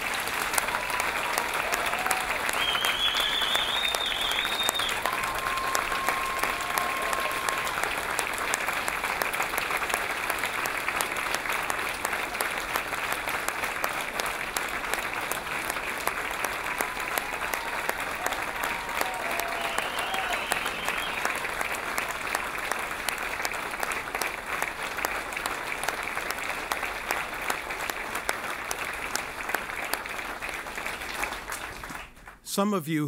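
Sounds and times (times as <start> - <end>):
audience applauding: 0.0 - 32.4.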